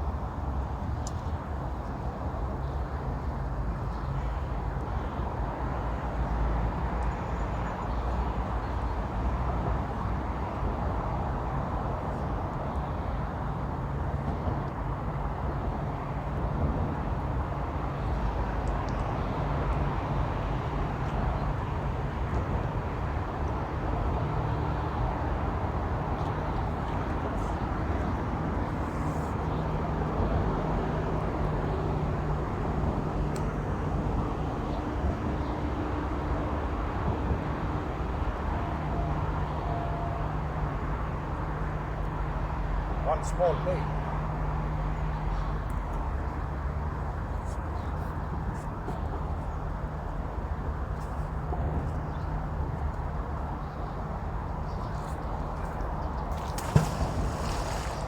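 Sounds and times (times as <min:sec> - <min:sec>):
road traffic rumble: 0:03.9 - 0:58.0.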